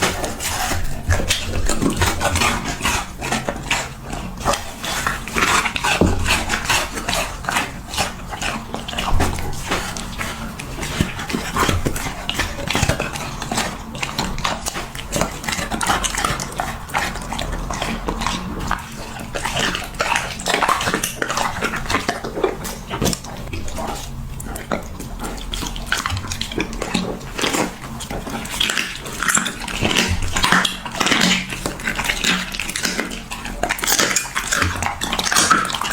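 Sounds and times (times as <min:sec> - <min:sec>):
dogs crunching treats: 0:00.0 - 0:35.9.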